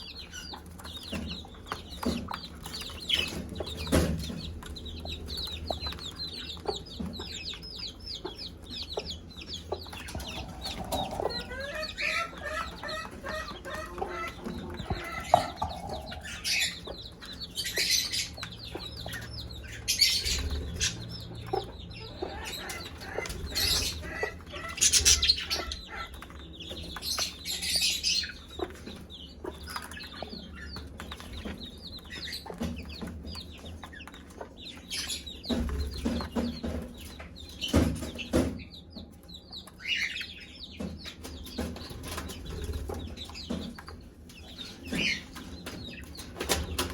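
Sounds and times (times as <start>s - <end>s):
chicks peeping: 0.0s - 46.9s
hen clucking: 0.0s - 46.9s.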